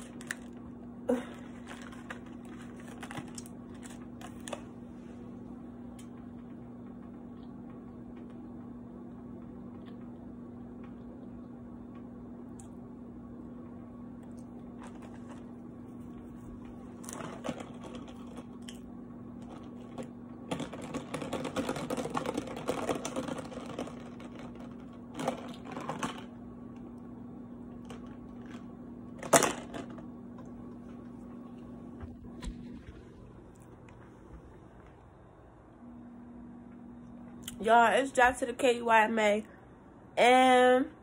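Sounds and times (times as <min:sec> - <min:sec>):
box fan humming: 0:00.0 - 0:41.0.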